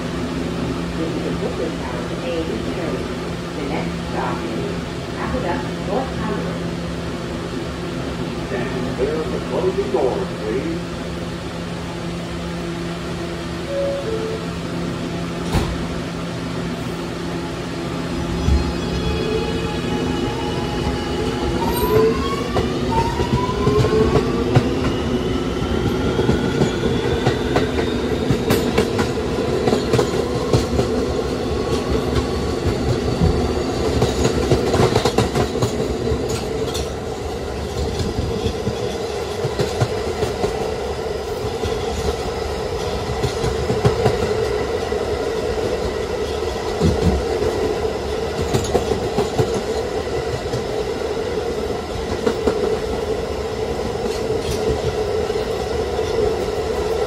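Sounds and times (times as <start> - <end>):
train inverter whine: 0.0 - 57.0
wheels rumbling on rail: 0.0 - 57.0.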